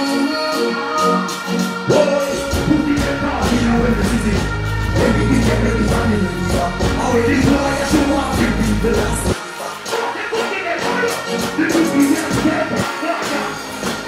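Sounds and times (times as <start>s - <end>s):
dancehall music with heavy bass: 0.0s - 14.0s.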